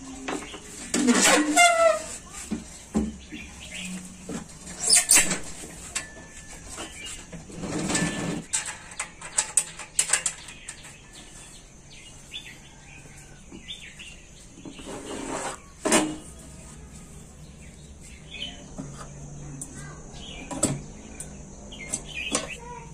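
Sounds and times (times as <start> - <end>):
birds chirping: 0.0 - 1.0, 1.6 - 22.9.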